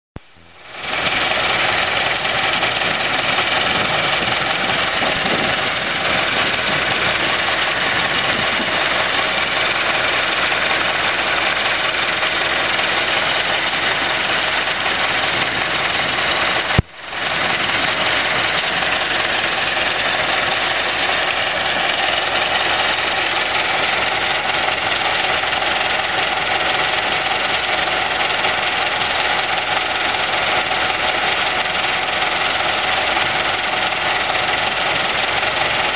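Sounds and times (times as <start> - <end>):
engine running: 0.2 - 35.9.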